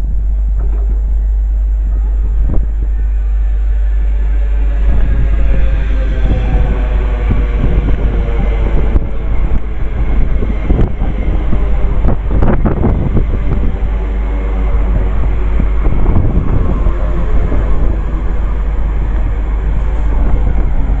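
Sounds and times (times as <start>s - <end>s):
passing train rumble: 0.0s - 21.0s
wind buffeting microphone: 0.0s - 21.0s.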